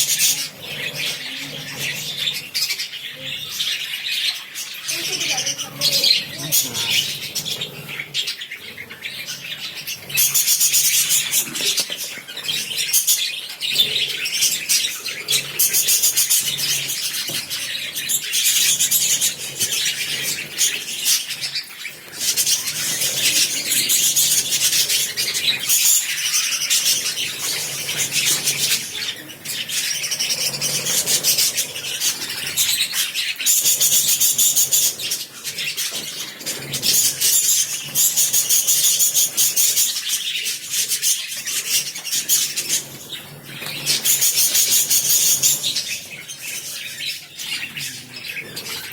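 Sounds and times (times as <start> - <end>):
parrots chattering and chirping: 0.0 - 48.9.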